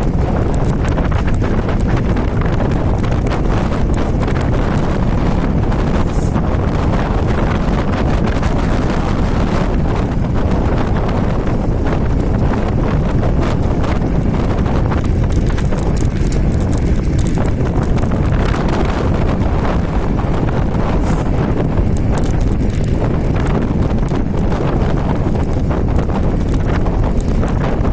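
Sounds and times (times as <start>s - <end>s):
electric scooter rattling knocks: 0.0s - 5.8s, 7.0s - 27.9s
wind buffeting microphone: 0.0s - 27.9s.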